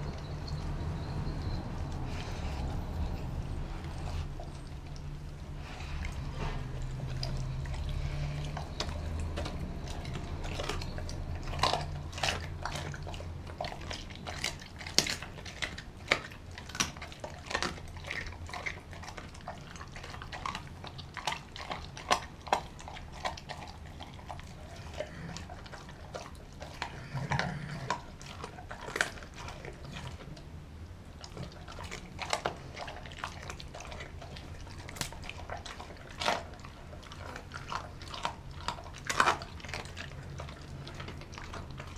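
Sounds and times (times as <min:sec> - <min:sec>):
dog chewing and smacking: 0:00.0 - 0:41.9.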